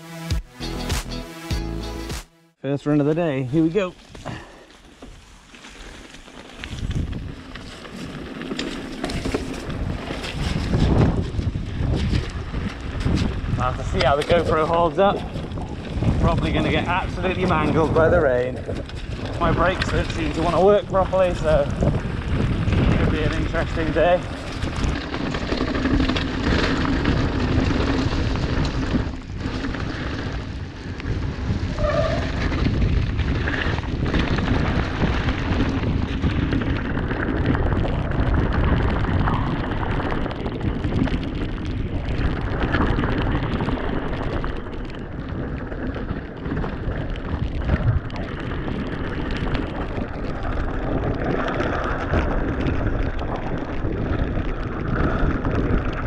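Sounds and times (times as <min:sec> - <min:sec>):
bike rattling: 0:02.8 - 0:56.0
tyres rolling over wet ground: 0:03.6 - 0:56.0
wind buffeting microphone: 0:06.6 - 0:56.0.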